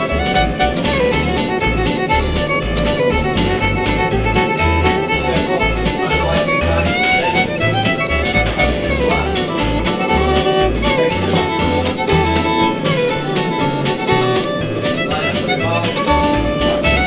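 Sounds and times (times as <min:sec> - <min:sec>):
fiddle with guitar and bass: 0:00.0 - 0:17.0.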